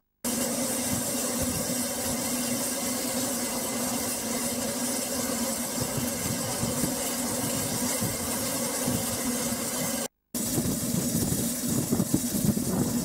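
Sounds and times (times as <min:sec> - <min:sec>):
steam hissing: 0:00.2 - 0:13.0.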